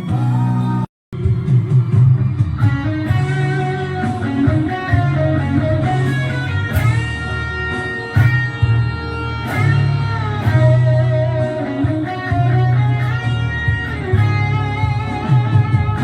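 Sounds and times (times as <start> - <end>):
bass: 0.0 - 16.0
guitar solo: 0.0 - 16.0.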